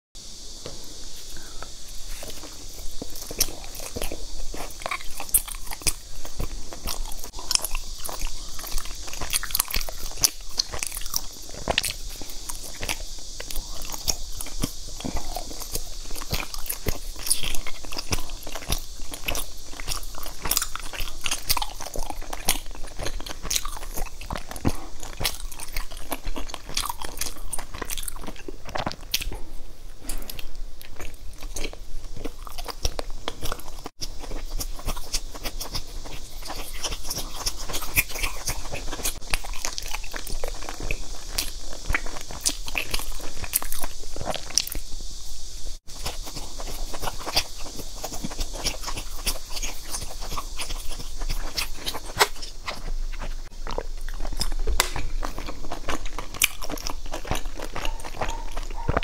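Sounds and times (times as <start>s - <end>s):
steady high hiss: 0.2s - 59.0s
mouth clicks and smacks: 0.6s - 45.2s, 45.9s - 59.0s
person chewing sticky pastries: 0.6s - 59.0s.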